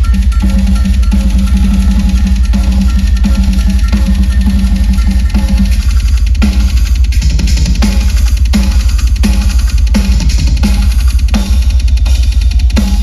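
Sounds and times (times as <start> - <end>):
fast kick drum hits: 0.0 - 13.0
metal drum kit playing: 0.0 - 13.0.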